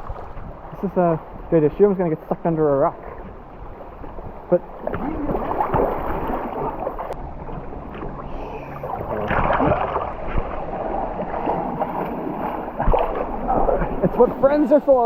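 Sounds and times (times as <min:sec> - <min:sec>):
river water rushing and gurgling: 0:00.0 - 0:15.0.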